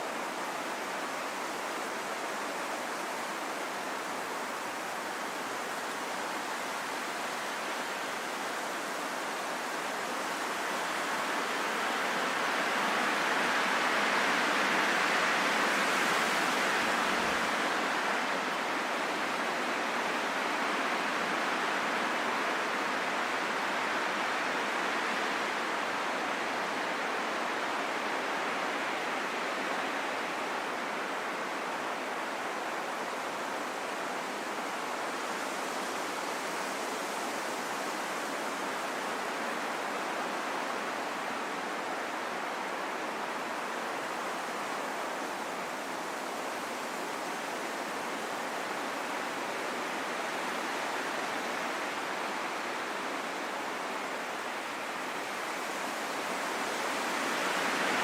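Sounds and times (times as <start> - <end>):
steady rain in forest: 0.0 - 58.0.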